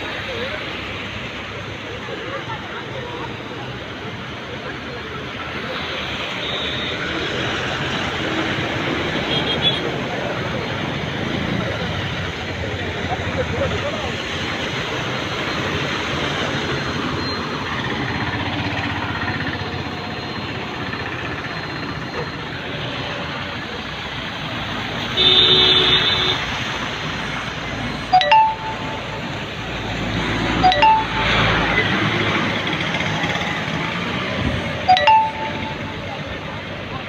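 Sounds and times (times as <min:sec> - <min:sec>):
traffic on wet road: 0:00.0 - 0:37.0.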